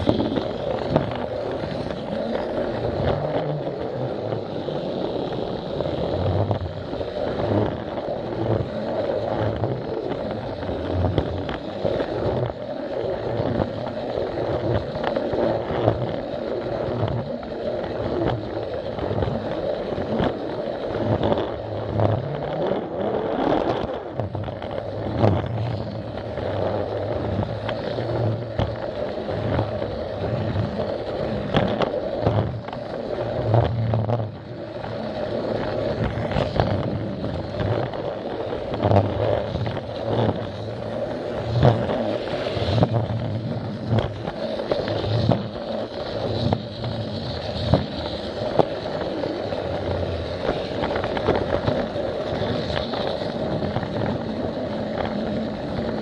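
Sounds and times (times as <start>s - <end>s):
toy train motor humming: 0.0s - 56.0s
wheels clicking over track joints: 0.0s - 56.0s.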